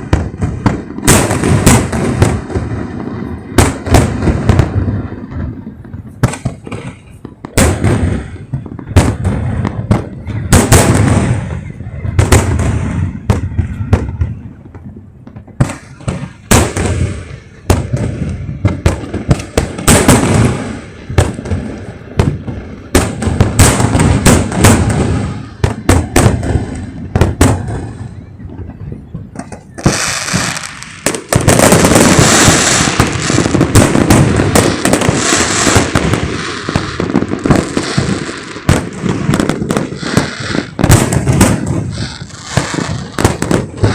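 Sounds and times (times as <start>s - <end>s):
fireworks bangs and booms: 0.0s - 43.9s
fireworks crackling: 0.0s - 43.9s.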